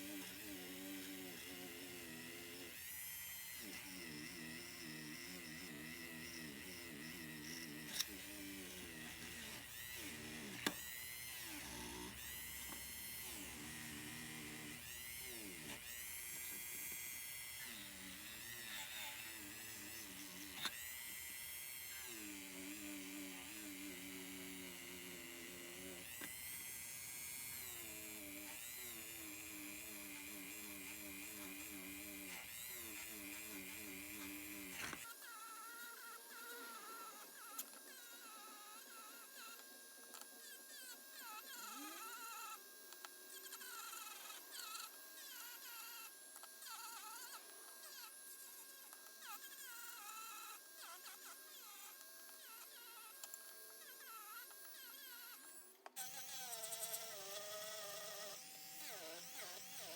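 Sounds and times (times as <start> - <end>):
small high-speed motor whining: 0.0 - 59.9.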